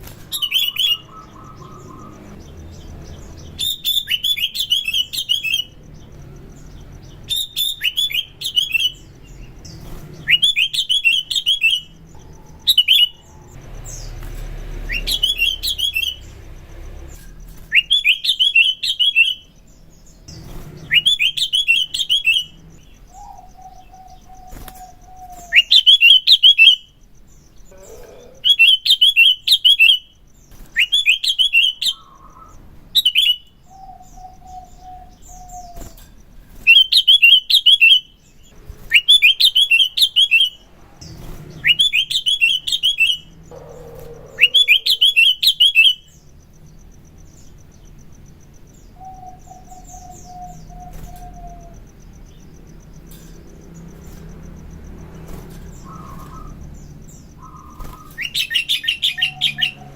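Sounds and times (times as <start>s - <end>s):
bird chirping phrases: 0.0s - 59.9s.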